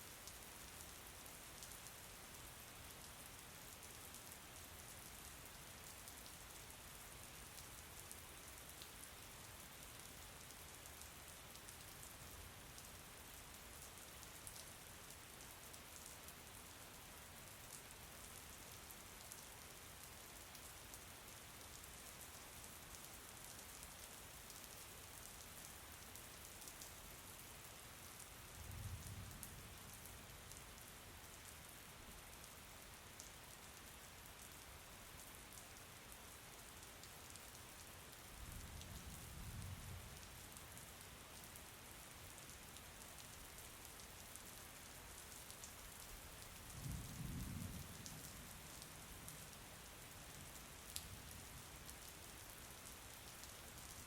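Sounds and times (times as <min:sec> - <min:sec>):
faint rain pattering: 0:00.0 - 0:54.0.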